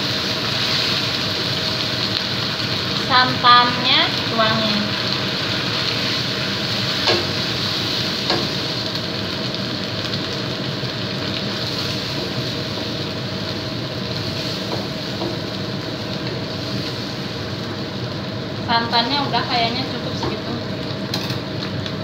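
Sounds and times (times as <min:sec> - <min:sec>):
curry sizzling in a wok: 0:00.0 - 0:22.0.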